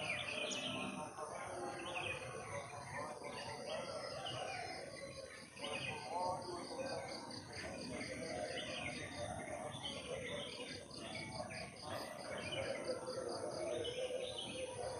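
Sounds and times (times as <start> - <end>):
bird calls: 0.0 - 14.9.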